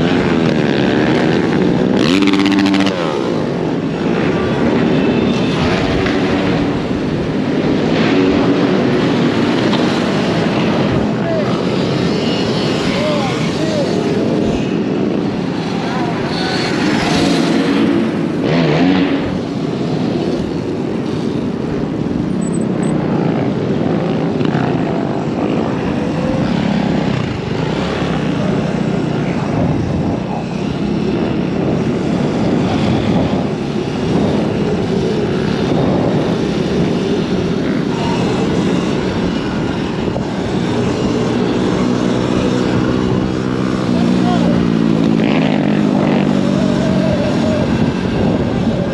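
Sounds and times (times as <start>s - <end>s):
dirt bike engine drone: 0.0s - 48.9s.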